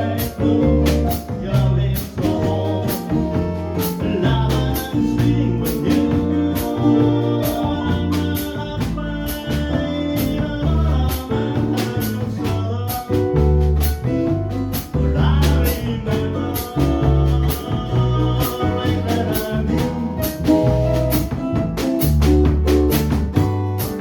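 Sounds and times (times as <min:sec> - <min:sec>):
bass line: 0:00.0 - 0:24.0
small jazz band playing: 0:00.0 - 0:24.0.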